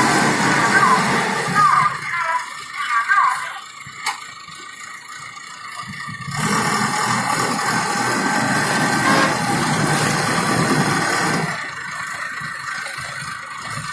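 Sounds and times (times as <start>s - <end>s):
diesel engine passing: 0.0s - 13.9s.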